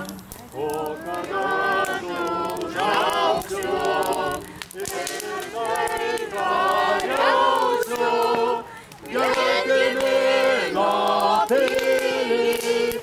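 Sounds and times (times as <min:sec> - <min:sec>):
group singing folk song: 0:00.0 - 0:13.0.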